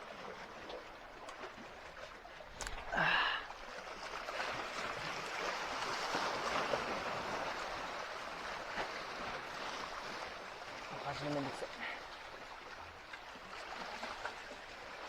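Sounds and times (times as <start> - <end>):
waves lapping on shore: 0.0 - 15.0.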